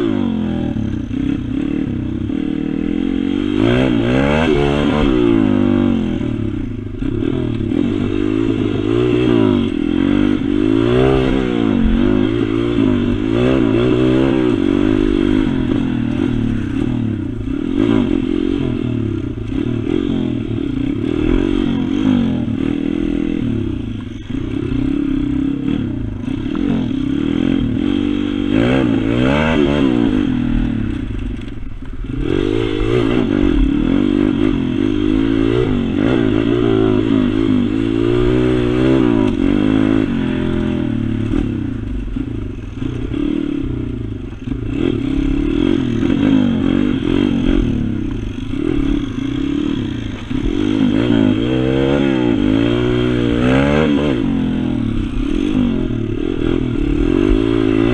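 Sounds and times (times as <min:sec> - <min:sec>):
pit bike engine revving: 0:00.0 - 0:57.9.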